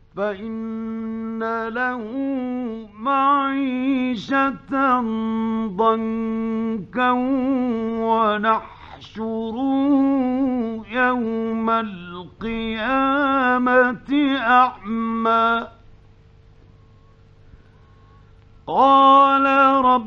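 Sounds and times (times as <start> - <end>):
faint steady hum: 0.0 - 20.0
man reciting melodically: 0.1 - 15.9, 18.6 - 20.0.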